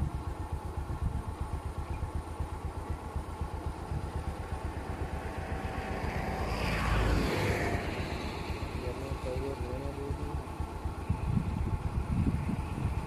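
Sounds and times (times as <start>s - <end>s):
rush of higher noise: 0.0s - 13.0s
vehicle engine idling: 0.0s - 13.0s.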